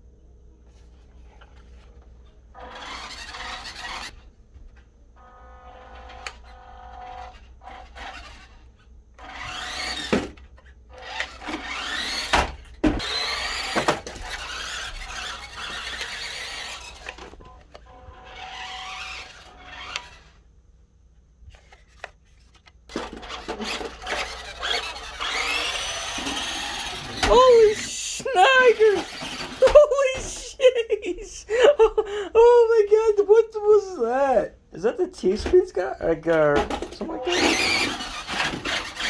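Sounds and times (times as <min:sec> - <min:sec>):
toy electric motor whining: 0:02.5 - 0:04.3, 0:05.2 - 0:20.5, 0:21.5 - 0:34.5, 0:35.1 - 0:39.0.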